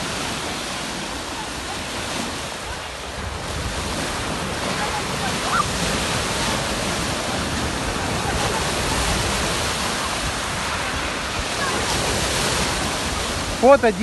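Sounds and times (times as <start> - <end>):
sea surf washing on beach: 0.0 - 14.0.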